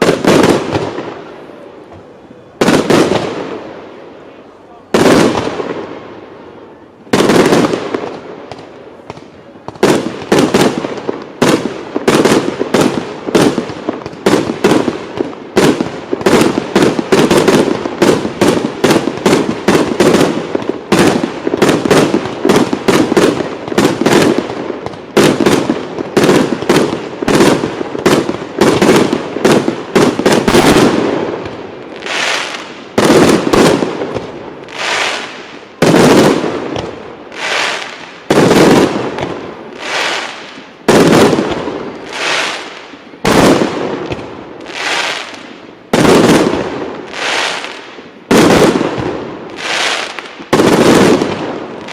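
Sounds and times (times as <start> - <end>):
fireworks bangs with echo: 0.0 - 51.9.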